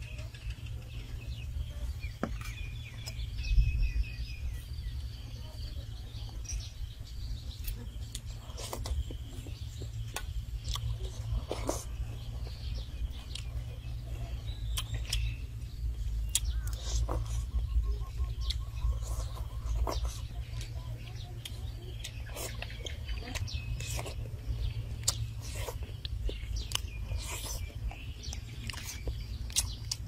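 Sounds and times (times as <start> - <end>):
bird chirps: 0.0 - 30.0
steady low rumble: 0.0 - 30.0.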